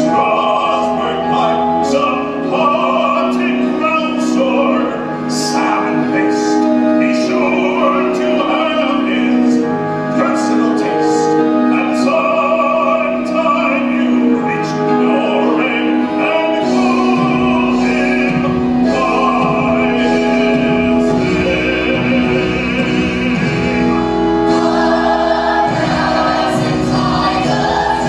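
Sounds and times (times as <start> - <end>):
orchestra playing: 0.0 - 28.0
voices singing sustained notes: 0.0 - 28.0.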